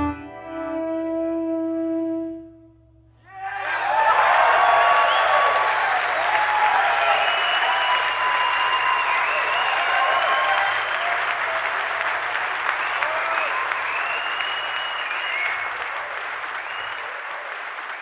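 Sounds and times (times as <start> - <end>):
audience applauding: 3.4 - 18.0
audience whistling: 3.6 - 18.0.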